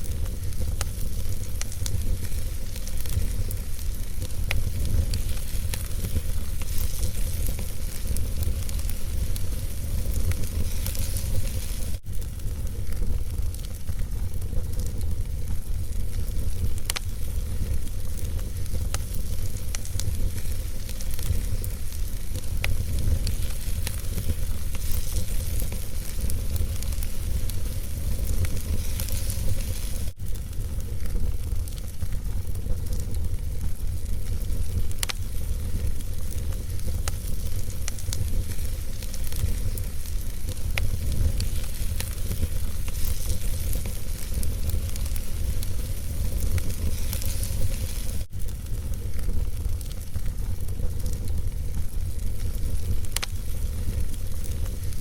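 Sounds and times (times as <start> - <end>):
fire rumble and hiss: 0.0 - 55.0
wood fire crackling: 0.0 - 55.0.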